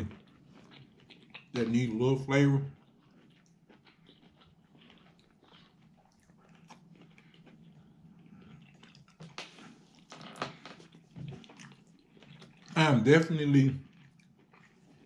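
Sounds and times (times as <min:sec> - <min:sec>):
person chewing food: 0:00.0 - 0:13.1, 0:13.8 - 0:15.0.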